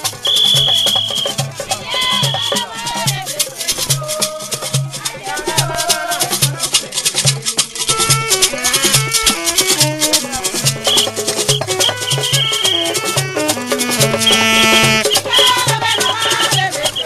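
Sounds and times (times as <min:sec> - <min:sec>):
music with steady beat: 0:00.0 - 0:16.0
rattling percussion: 0:00.0 - 0:17.0.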